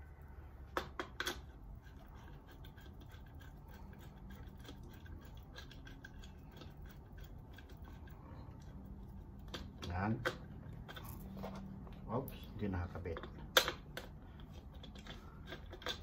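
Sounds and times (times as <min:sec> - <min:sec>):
fingers clicking and scratching plastic: 0:00.7 - 0:11.8, 0:12.6 - 0:16.0.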